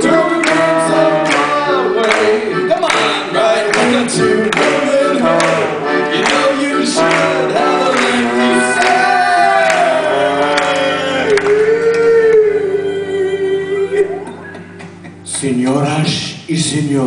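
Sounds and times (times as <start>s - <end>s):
voices singing: 0.0s - 15.2s
live band playing: 0.0s - 16.0s.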